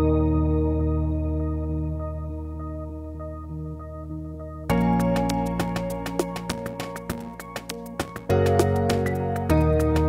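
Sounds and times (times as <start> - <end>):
background music with chords: 0.0 - 10.0.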